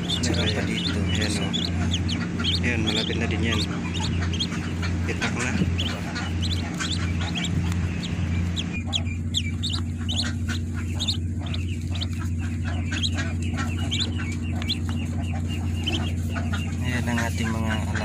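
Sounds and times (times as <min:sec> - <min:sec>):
ducklings peeping: 0:00.0 - 0:18.0
steady low hum: 0:00.0 - 0:18.0.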